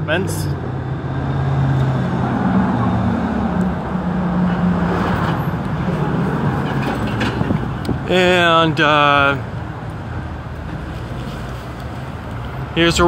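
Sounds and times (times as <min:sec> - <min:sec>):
bus engine hum: 0:00.0 - 0:12.7
road noise: 0:00.0 - 0:13.0.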